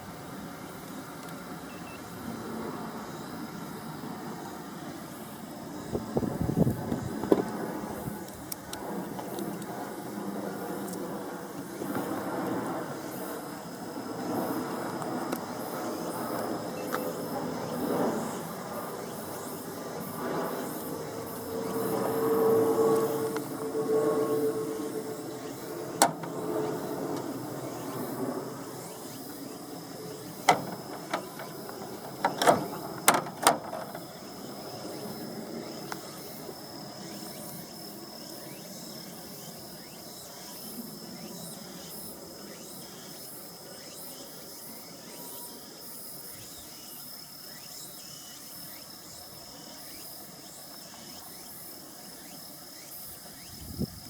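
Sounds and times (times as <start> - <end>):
faint high whine: 0.0 - 54.0.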